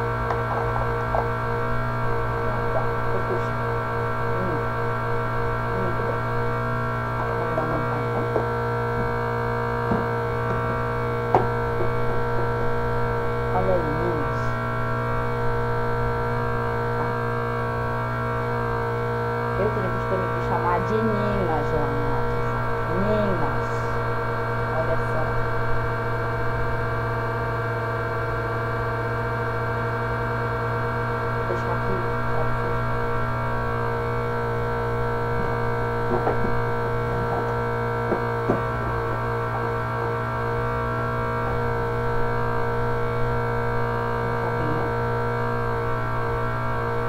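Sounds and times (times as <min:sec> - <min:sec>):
electric fan humming: 0:00.0 - 0:47.0.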